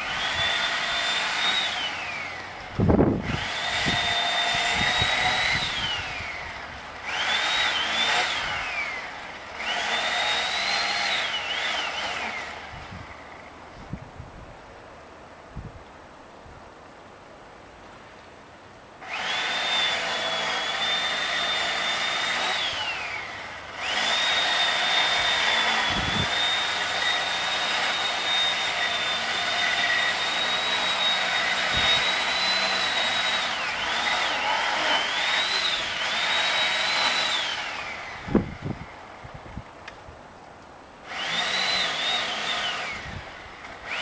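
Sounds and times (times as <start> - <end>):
high-speed motor whine: 0.0 - 13.9, 19.0 - 39.7, 41.0 - 44.0.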